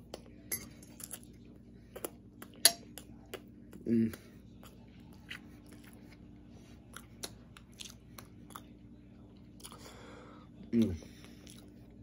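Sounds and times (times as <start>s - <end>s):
low steady hum: 0.0s - 12.0s
faint chewing: 0.9s - 12.0s.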